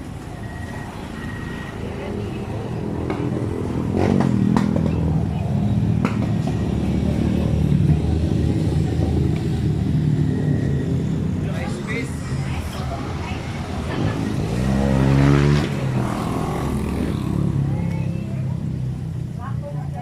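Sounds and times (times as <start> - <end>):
engine running close by: 0.0 - 20.0
motor traffic: 0.0 - 20.0.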